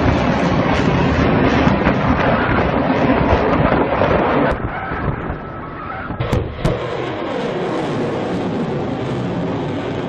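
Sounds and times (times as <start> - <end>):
rocket booster roaring: 0.0 - 10.0.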